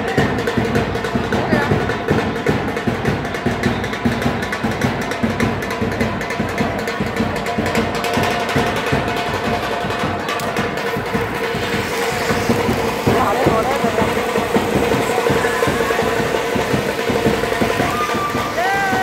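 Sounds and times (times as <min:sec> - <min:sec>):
music with fast percussion beat: 0:00.0 - 0:19.0.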